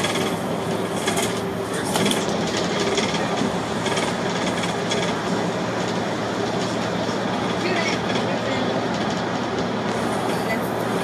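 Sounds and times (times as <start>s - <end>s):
bus engine drone: 0.0s - 11.0s
road noise: 0.0s - 11.0s.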